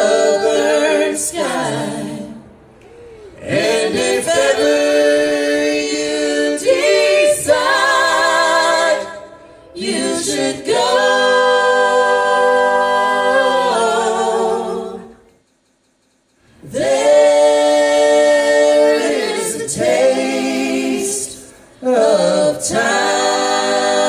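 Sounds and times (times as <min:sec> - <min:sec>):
voices singing in harmony: 0:00.0 - 0:15.4, 0:16.5 - 0:24.0.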